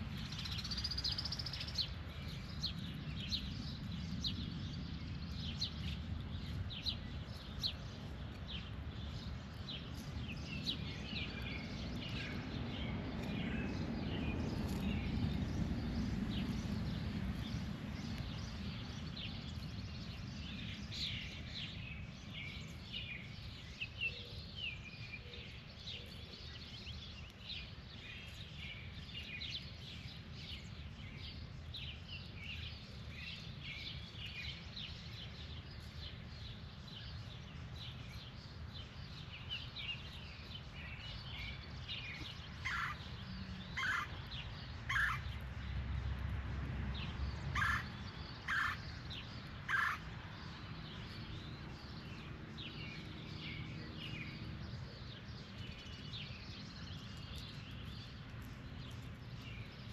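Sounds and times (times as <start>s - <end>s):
birds chirping: 0.0s - 45.8s, 46.9s - 59.9s.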